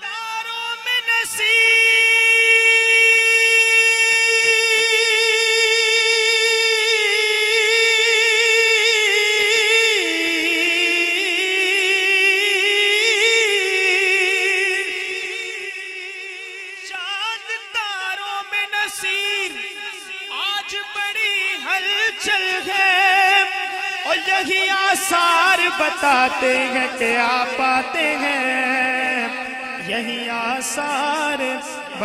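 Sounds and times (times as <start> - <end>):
man singing unaccompanied: 0.0 - 32.0.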